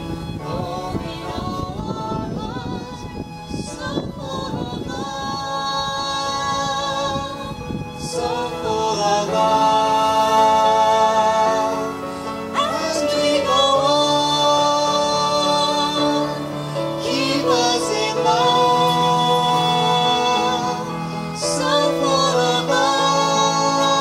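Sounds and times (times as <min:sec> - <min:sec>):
man and woman singing a duet: 0:00.2 - 0:24.0.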